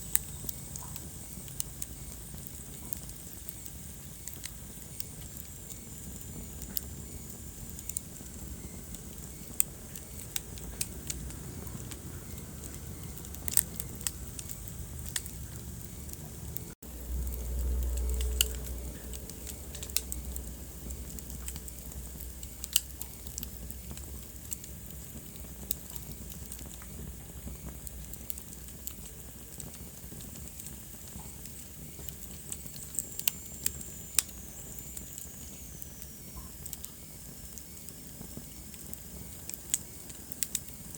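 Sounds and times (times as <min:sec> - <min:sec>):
low rumble of flames: 0:00.0 - 0:40.9
sharp pops of fire: 0:00.0 - 0:40.9
wood fire crackling: 0:00.0 - 0:40.9.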